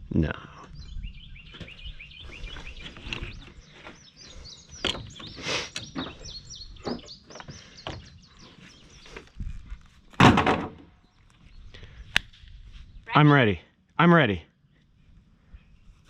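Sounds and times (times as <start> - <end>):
songbirds chirping: 0.2 - 16.0.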